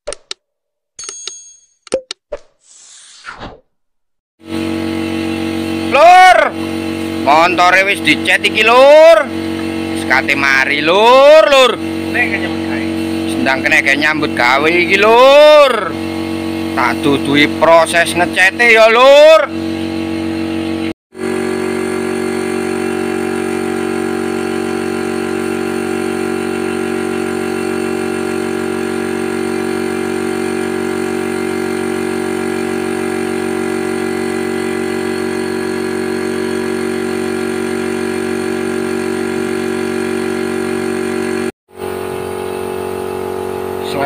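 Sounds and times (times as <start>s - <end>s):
motor running steadily: 4.4s - 44.0s.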